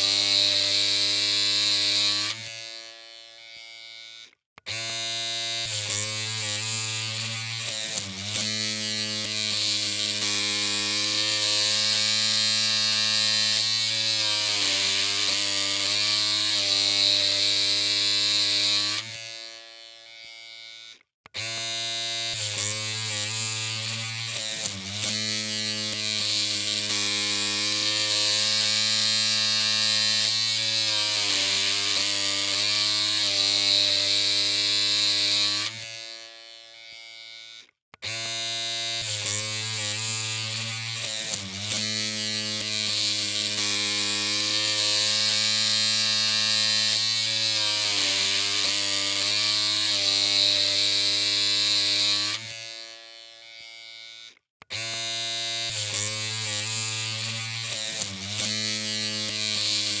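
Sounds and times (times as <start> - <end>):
electric hair clippers humming: 0.0 - 60.0.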